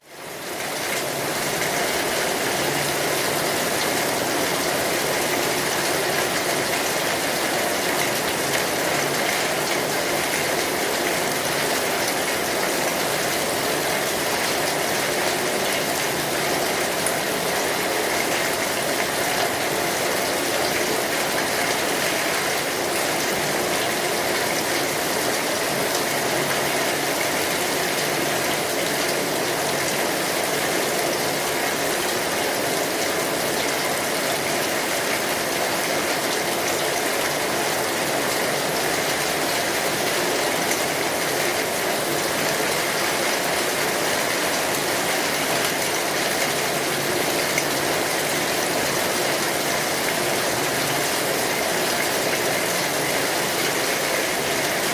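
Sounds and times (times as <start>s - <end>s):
rain falling on an umbrella: 0.0s - 54.9s.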